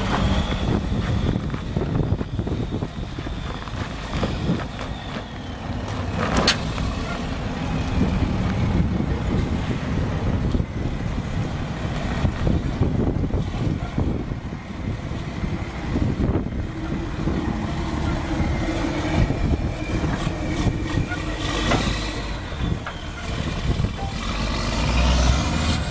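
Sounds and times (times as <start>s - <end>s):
diesel engine idling: 0.0s - 25.9s
wind buffeting microphone: 0.0s - 25.9s.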